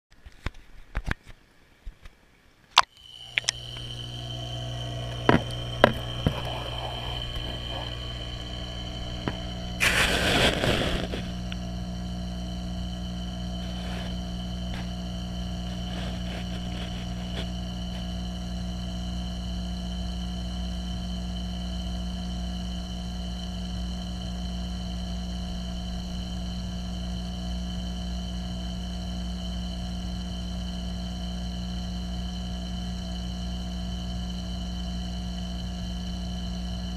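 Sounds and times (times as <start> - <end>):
aquarium pump hum and whine: 0.4 - 36.9.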